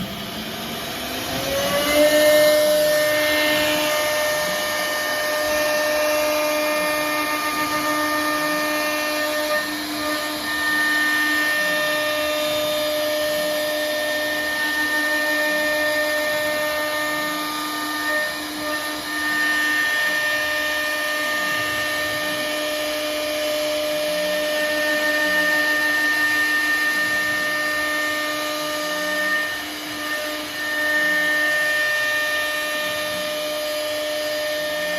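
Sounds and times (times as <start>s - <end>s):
grinding cutting noise: 0.0s - 34.9s
router spindle whine: 0.0s - 34.9s.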